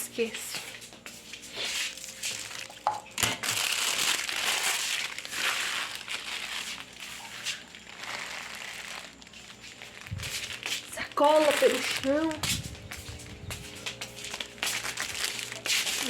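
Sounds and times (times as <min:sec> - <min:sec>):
plastic bags crinkling: 0:01.4 - 0:16.0.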